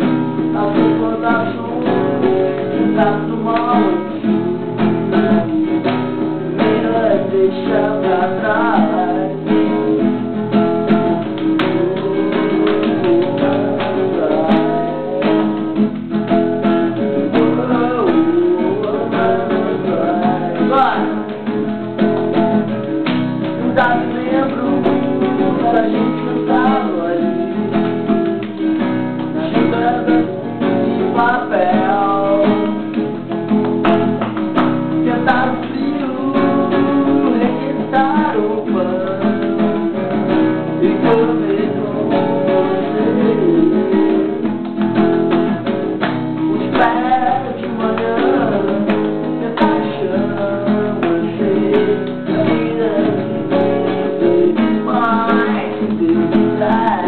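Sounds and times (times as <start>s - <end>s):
acoustic guitar strumming: 0.0s - 57.0s
person singing: 0.0s - 57.0s.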